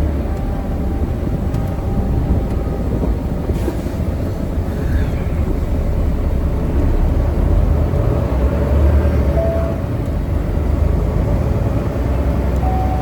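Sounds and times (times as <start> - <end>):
road noise: 0.0 - 13.0
truck engine low rumble: 0.0 - 13.0.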